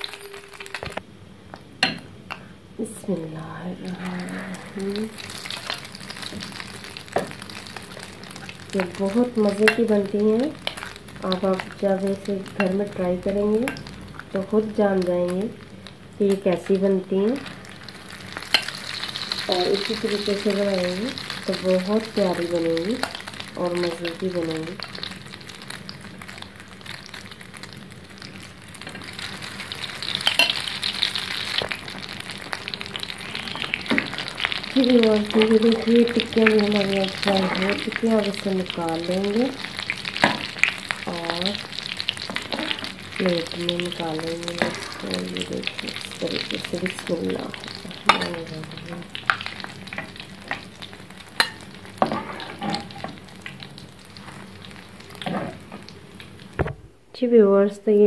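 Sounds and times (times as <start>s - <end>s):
patties sizzling in hot oil: 0.0s - 56.8s.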